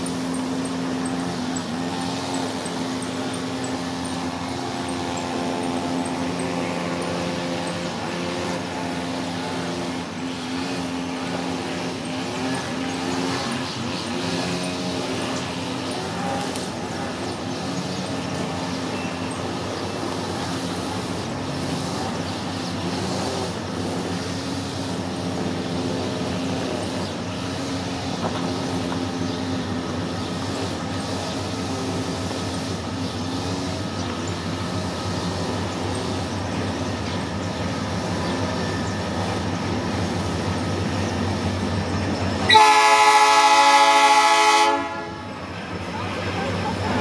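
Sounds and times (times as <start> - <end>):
diesel locomotive engines running: 0.0 - 47.0.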